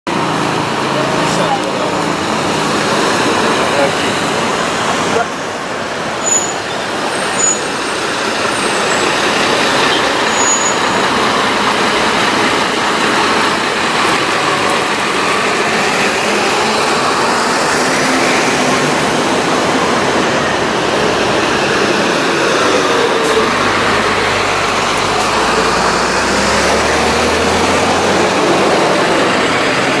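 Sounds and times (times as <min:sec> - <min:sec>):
buses and traffic: 0:00.0 - 0:30.0
heavy engine approaching: 0:00.1 - 0:30.0.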